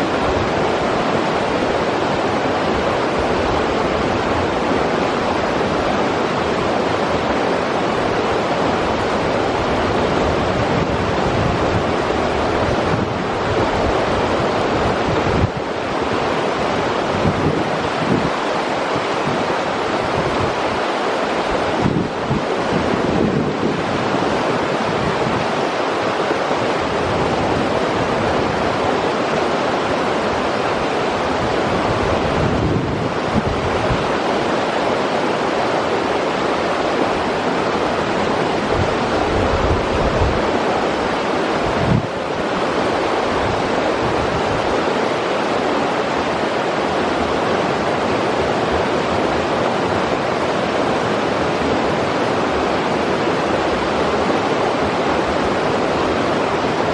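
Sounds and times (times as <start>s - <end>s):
river water rushing over rocks: 0.0s - 56.9s
wind rumble on microphone: 0.0s - 56.9s.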